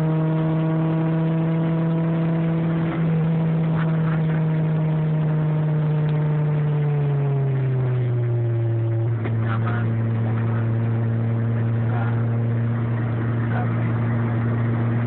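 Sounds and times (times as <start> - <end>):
car engine at high speed: 0.0 - 15.0.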